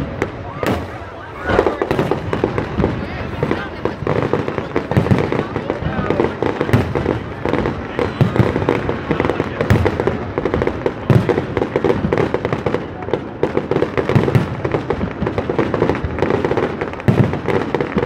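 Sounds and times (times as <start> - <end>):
firework booms: 0.0 - 18.0
fireworks crackling pops: 0.0 - 18.0.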